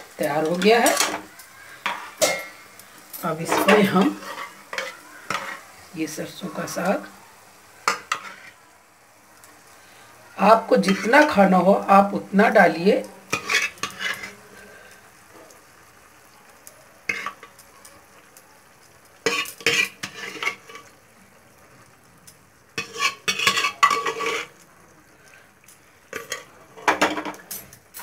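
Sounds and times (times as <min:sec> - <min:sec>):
low sizzle of frying: 0:00.0 - 0:28.0.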